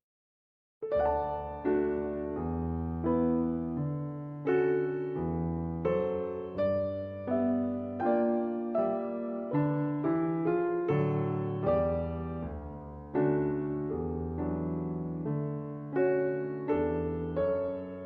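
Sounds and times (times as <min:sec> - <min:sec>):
slow piano music: 0:00.8 - 0:18.0.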